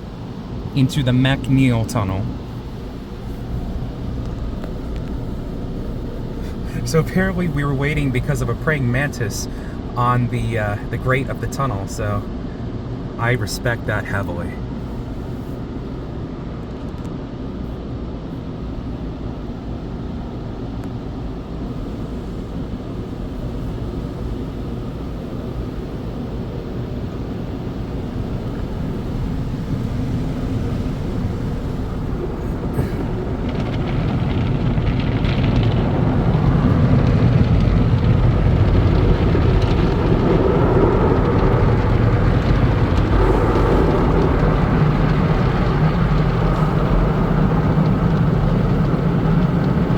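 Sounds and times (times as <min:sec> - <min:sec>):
car wash rumble: 0:00.0 - 0:49.9.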